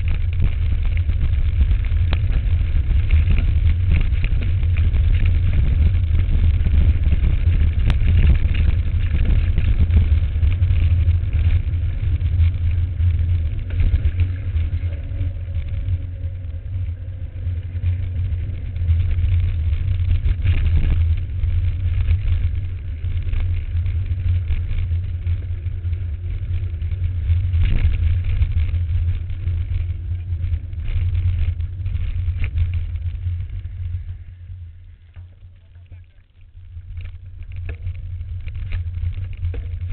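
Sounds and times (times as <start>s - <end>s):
wind and jostling rumble on microphone: 0.0s - 39.9s.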